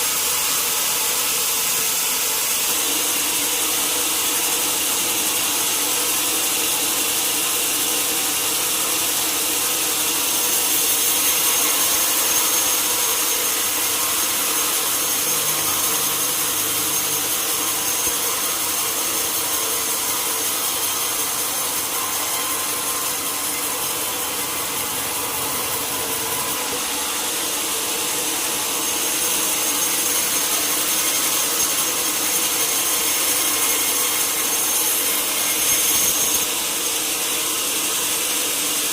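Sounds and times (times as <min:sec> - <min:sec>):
saw cutting through log: 0:00.0 - 0:38.9.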